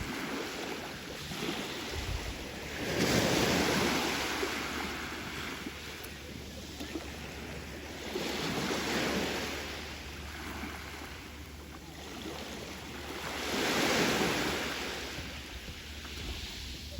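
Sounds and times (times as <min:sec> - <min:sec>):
sea waves breaking: 0:00.0 - 0:16.9.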